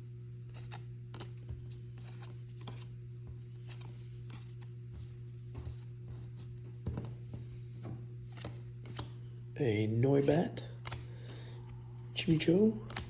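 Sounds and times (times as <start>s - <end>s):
low electrical hum: 0.0s - 13.0s
trading cards rustling: 0.5s - 7.6s, 8.2s - 9.2s, 10.0s - 13.0s.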